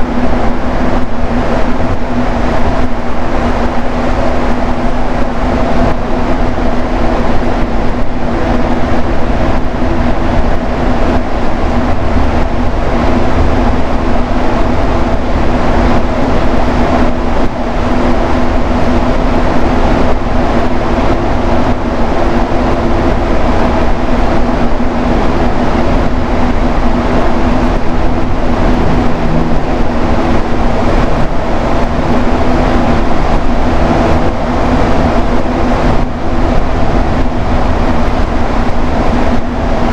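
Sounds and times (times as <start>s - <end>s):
constant hum: 0.0s - 39.9s
metro train rumbling: 0.0s - 39.9s.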